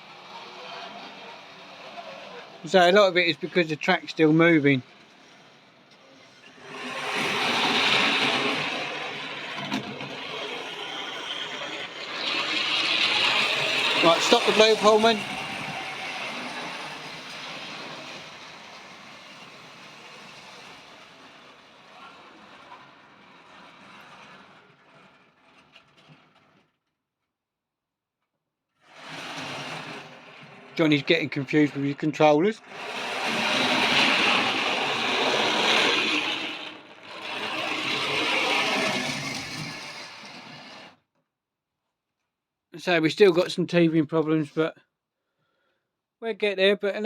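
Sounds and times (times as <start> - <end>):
model train running on track: 0.0 - 26.6, 28.9 - 41.0.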